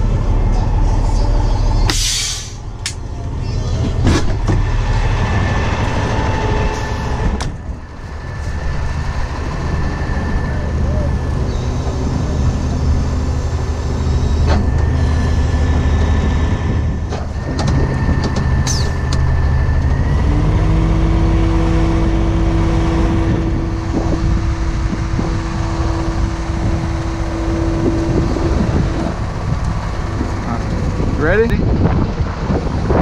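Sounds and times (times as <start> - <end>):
diesel engine running: 0.0 - 33.0
hydraulic winch whine: 3.9 - 31.3.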